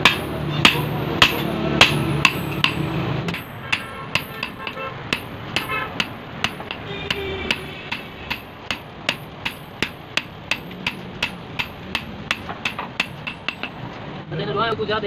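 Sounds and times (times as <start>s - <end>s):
hammer striking hot metal on anvil: 0.0s - 13.8s.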